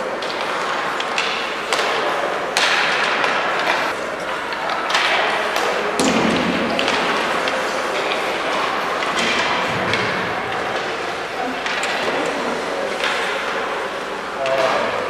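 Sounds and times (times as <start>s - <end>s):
hockey sticks and puck knocking: 0.0s - 15.0s.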